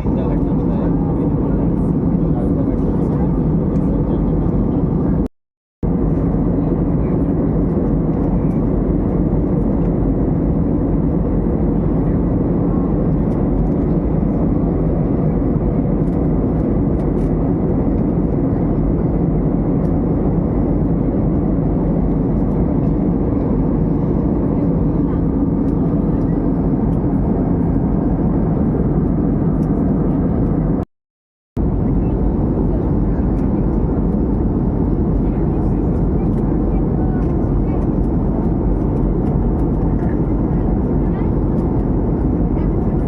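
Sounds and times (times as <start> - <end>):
airliner cabin engine noise: 0.0 - 30.9, 31.6 - 43.0.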